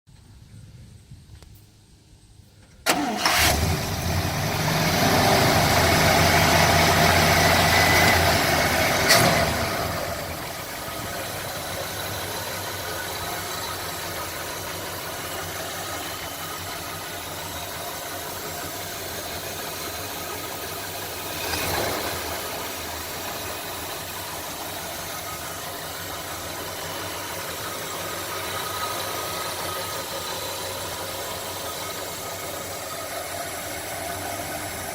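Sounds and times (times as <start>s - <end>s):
car engine idling: 1.6s - 34.9s.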